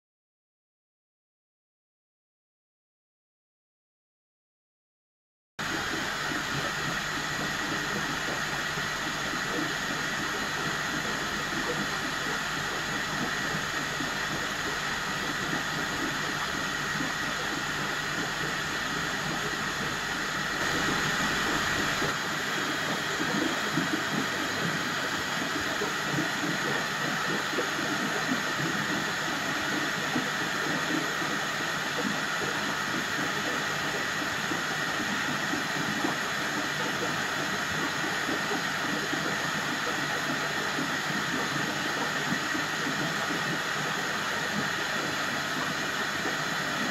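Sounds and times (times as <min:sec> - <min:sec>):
aquarium filter rushing hiss: 0:05.6 - 0:46.9.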